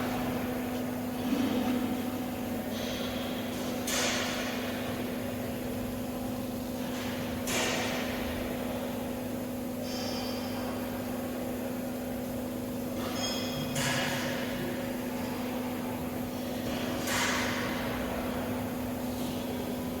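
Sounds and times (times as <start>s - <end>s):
electrical machine hum: 0.0s - 20.0s.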